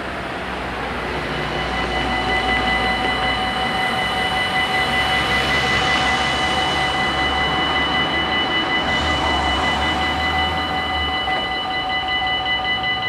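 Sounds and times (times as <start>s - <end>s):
level crossing warning bells: 0.0s - 13.0s
road traffic passing: 0.0s - 13.0s.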